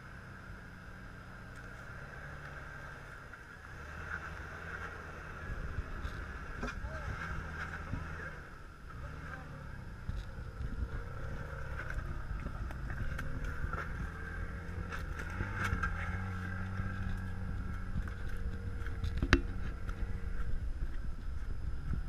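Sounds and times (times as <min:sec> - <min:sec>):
engine running at low revs: 0:00.0 - 0:22.0
stones clicking under tyres: 0:01.3 - 0:08.1, 0:09.8 - 0:22.0.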